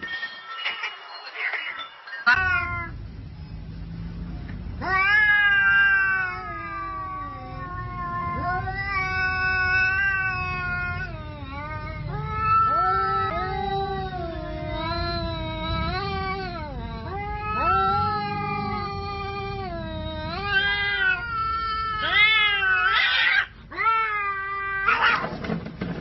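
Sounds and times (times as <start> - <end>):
cat yowling: 2.3 - 3.0, 4.8 - 25.4.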